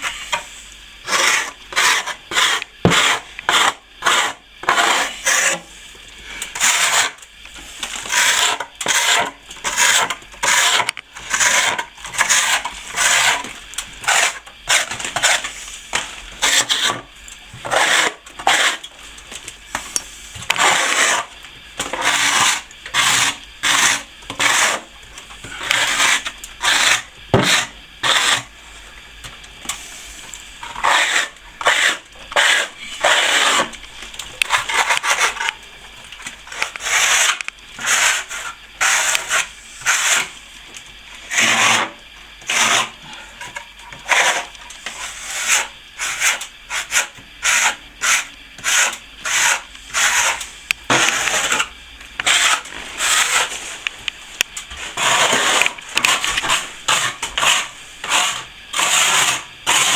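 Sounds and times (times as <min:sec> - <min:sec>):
plastering tool scraping plaster: 0:00.0 - 0:05.8, 0:06.4 - 0:18.9, 0:19.8 - 0:28.5, 0:29.6 - 0:35.6, 0:36.5 - 0:40.4, 0:41.2 - 0:59.9.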